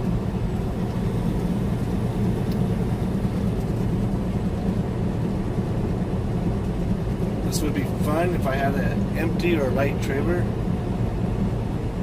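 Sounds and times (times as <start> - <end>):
diesel truck engine drone: 0.0 - 12.0
road noise: 0.0 - 12.0.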